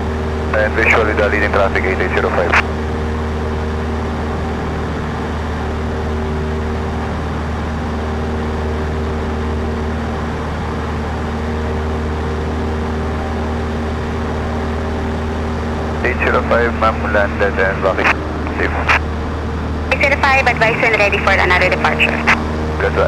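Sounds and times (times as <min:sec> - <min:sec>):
airplane engine and propeller droning: 0:00.0 - 0:23.0.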